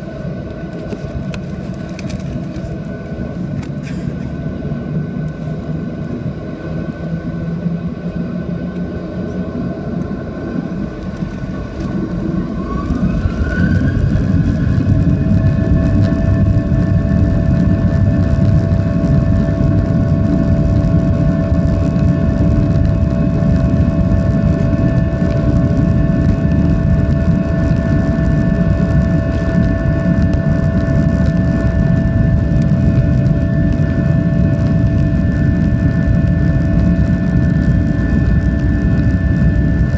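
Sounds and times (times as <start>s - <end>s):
jet engines roaring steadily: 0.0s - 39.9s
jet engines spooling up: 0.0s - 39.9s.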